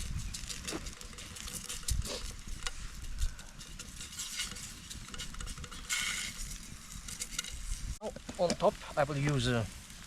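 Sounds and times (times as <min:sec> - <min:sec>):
utensils clicking and scraping: 0:00.0 - 0:08.5.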